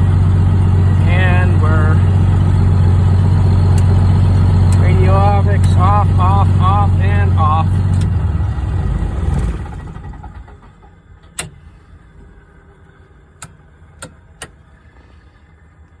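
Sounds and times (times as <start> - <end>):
aircraft engine winding down: 0.0 - 16.0.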